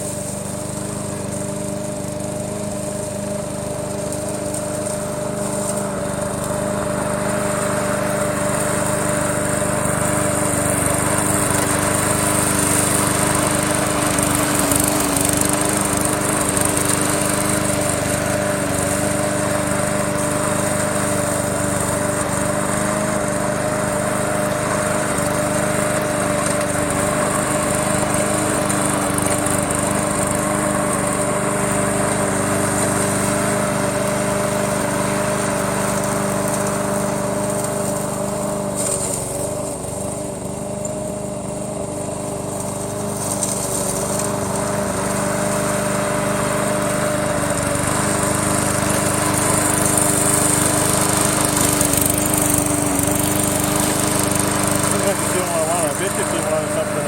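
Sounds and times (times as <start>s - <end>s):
lawn mower running: 0.0s - 57.0s.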